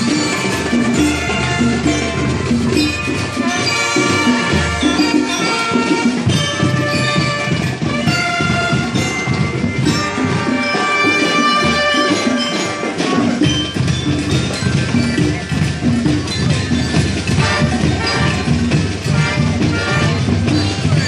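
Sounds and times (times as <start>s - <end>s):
drums keeping a steady beat: 0.0s - 21.0s
marching band playing: 0.0s - 21.0s.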